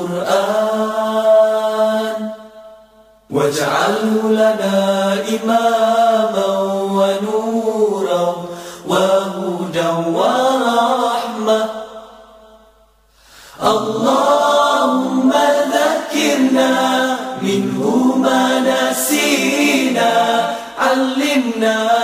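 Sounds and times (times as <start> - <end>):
group chanting in unison: 0.0 - 12.7, 13.5 - 22.0.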